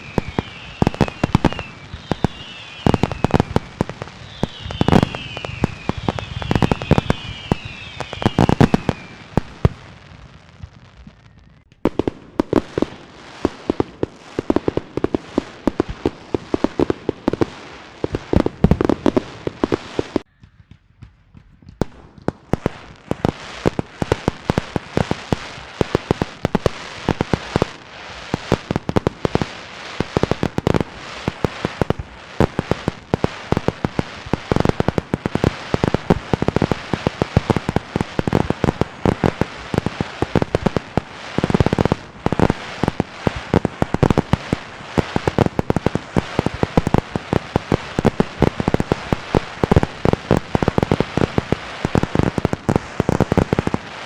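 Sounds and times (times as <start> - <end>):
falling firework whistles: 0.0 - 11.9, 22.5 - 54.0
firecrackers banging and crackling: 0.0 - 54.0.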